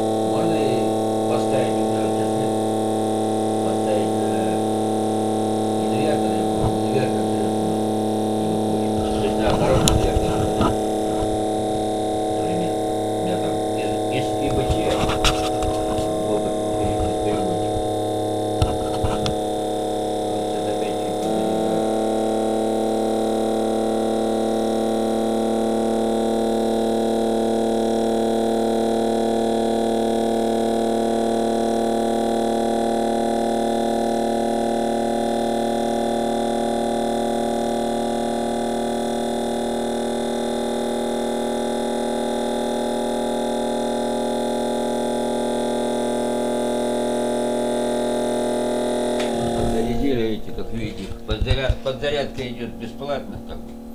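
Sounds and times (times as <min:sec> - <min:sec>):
electric motor hum: 0:00.0 - 0:53.9.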